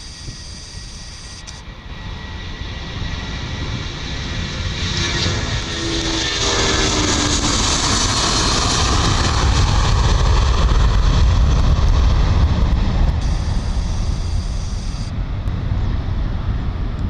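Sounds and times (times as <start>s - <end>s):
jet engines whining: 0.0s - 17.0s
deep rumble: 1.6s - 17.0s.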